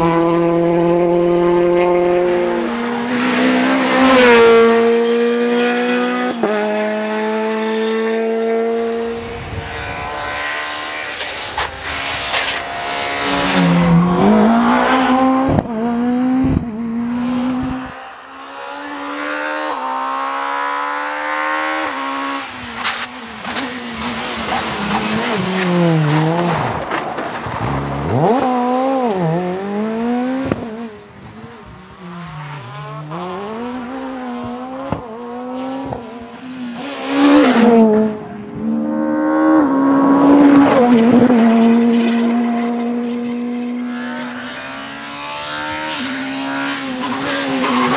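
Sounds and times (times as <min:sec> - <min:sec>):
rally car engines revving hard: 0:00.0 - 0:47.9.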